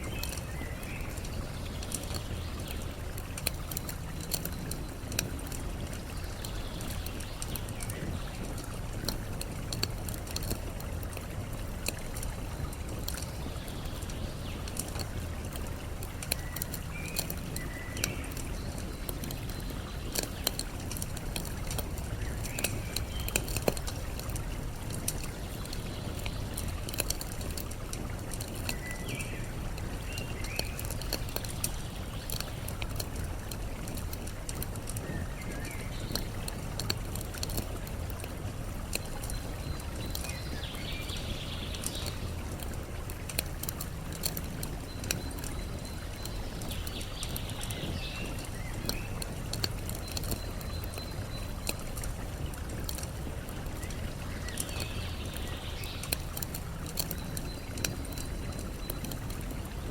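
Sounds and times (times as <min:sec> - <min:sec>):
campfire crackling and popping: 0:00.0 - 0:59.9
flowing water: 0:00.0 - 0:59.9.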